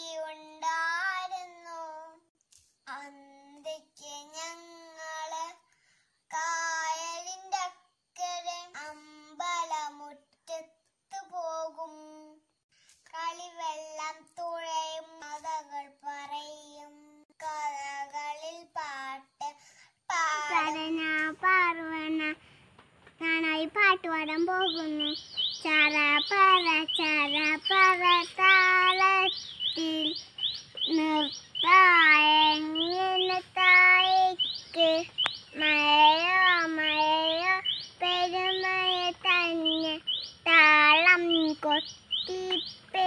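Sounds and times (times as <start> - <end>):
child singing: 0.0 - 5.6, 6.3 - 22.4, 23.2 - 43.0.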